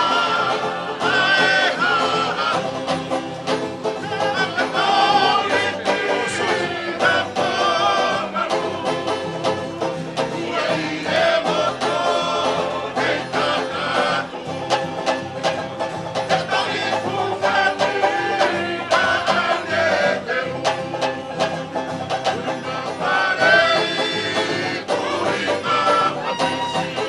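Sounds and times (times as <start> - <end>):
strummed string instruments: 0.0 - 27.0
voices singing: 0.0 - 27.0.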